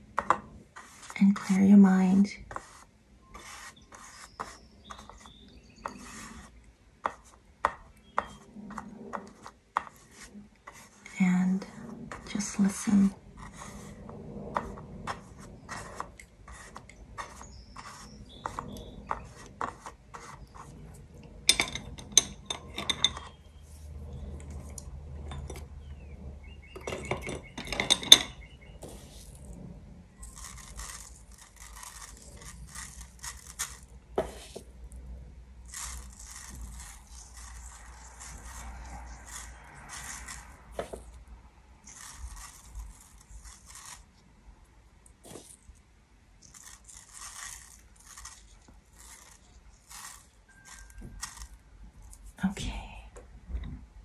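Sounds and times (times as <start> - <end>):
brush scraping on paper: 0.0 - 26.4, 28.6 - 44.2, 45.2 - 45.7, 46.4 - 52.4.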